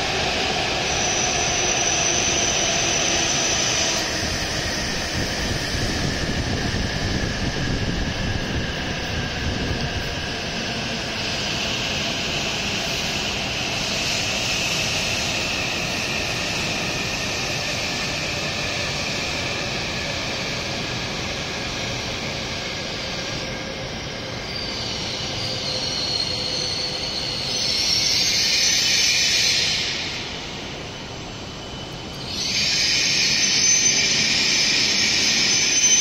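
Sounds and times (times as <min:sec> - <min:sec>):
train running noise: 0:00.0 - 0:36.0.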